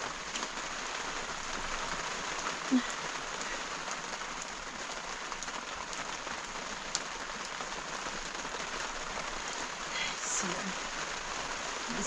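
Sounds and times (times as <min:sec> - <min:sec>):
rain pattering on surfaces: 0:00.0 - 0:12.0.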